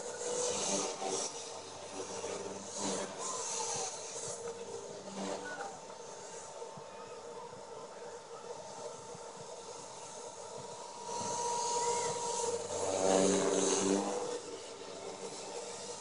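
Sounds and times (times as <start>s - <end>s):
deep buzzing rotor tone: 0.0s - 16.0s
rc helicopter rotor whine: 0.0s - 16.0s.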